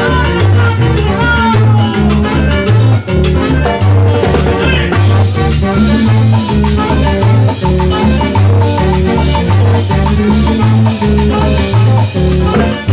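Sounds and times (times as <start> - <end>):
bass line: 0.0 - 12.9
drum kit and timbales beat: 0.0 - 12.9
saxophones melody: 0.0 - 12.9.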